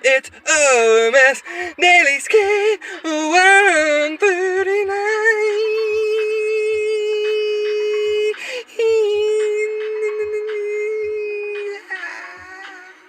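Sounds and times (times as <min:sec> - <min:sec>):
soft low beat: 0:01.7 - 0:12.9.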